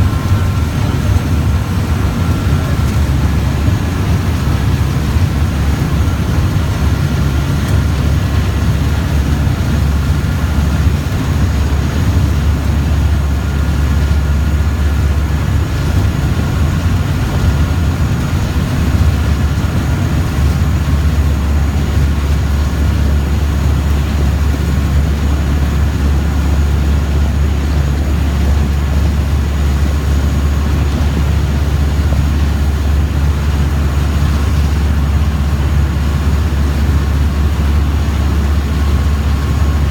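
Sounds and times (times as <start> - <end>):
boat engine drone: 0.0 - 39.9.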